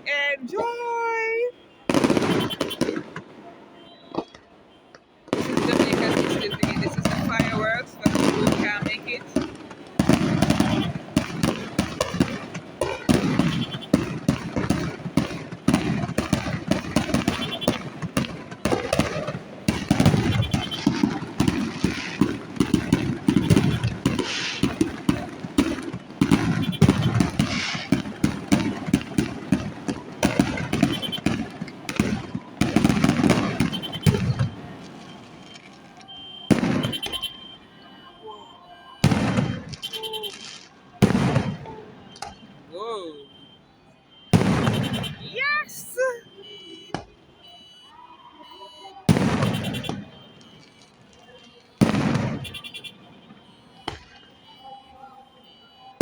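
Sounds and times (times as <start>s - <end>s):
car alarms beeping: 0.0s - 56.0s
fireworks cracking and booming: 0.5s - 56.0s.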